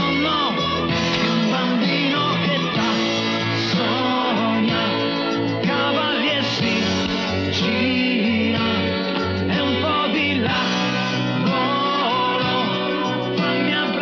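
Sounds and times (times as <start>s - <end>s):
guitar: 0.0s - 14.0s
pop music: 0.0s - 14.0s
pulsing bass line: 0.0s - 14.0s.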